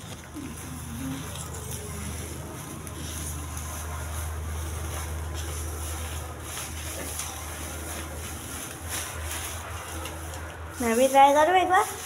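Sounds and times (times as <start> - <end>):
dry stalks crackling and rustling: 0.0 - 12.0.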